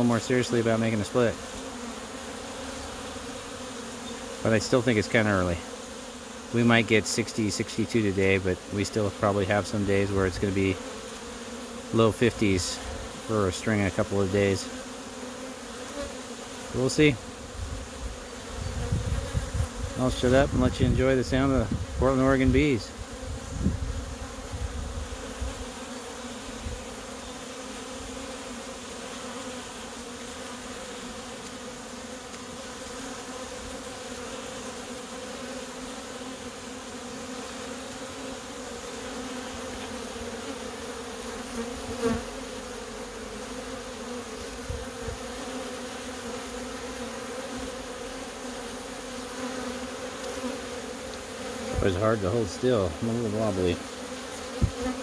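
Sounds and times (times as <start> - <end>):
bees humming: 0.0 - 55.0.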